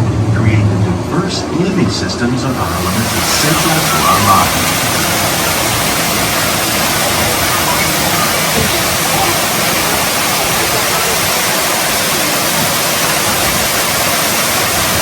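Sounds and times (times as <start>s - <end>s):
water rushing: 0.4s - 15.0s.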